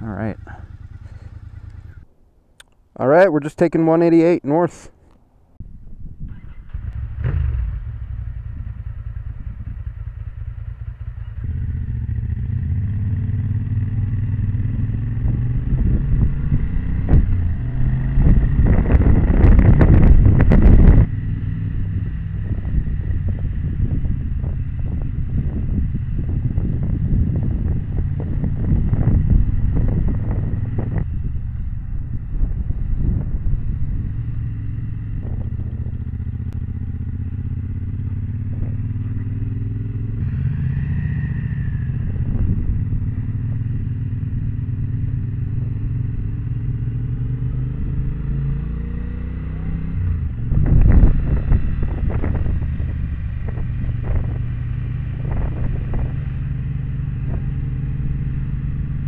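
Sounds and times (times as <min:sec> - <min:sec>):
motorcycle engine running: 0:00.0 - 0:02.0, 0:06.3 - 0:59.0.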